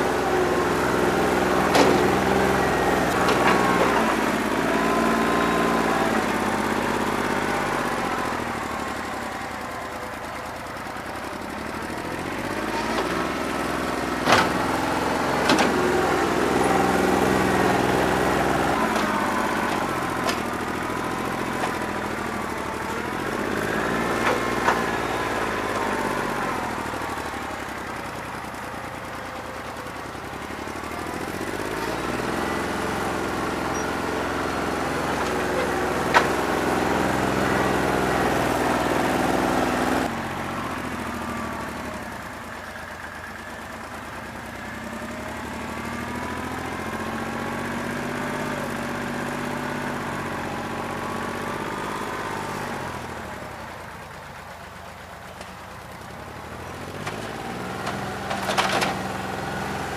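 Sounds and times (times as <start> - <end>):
diesel engine running rough: 0.0 - 59.9.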